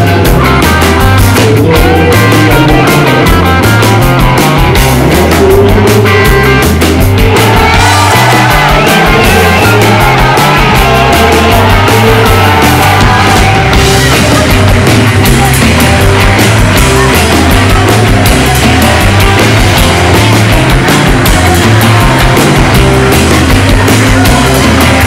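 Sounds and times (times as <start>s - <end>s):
loud rock music: 0.0s - 25.0s.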